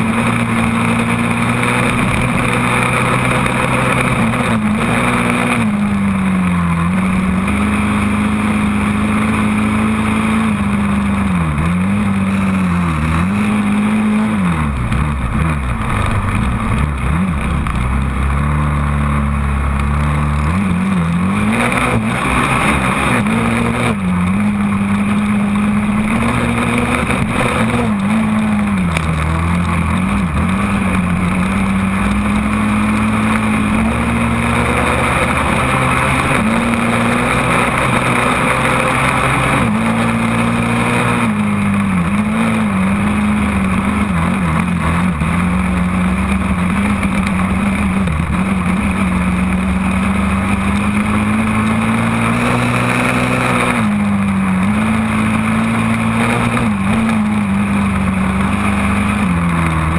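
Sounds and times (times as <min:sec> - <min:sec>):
quad engine running: 0:00.0 - 0:59.9.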